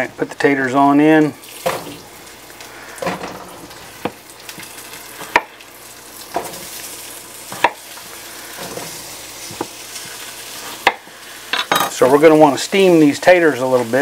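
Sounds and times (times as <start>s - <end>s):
potatoes sizzling in wok: 0.0s - 14.0s.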